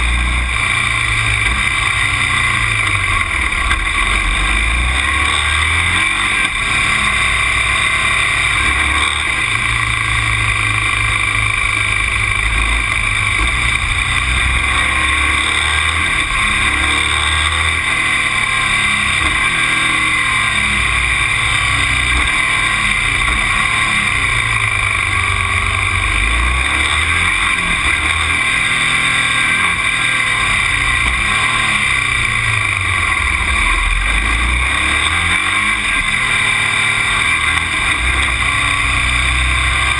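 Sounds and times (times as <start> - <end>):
vehicle engine: 0.0 - 39.9
wind and road noise: 0.0 - 39.9.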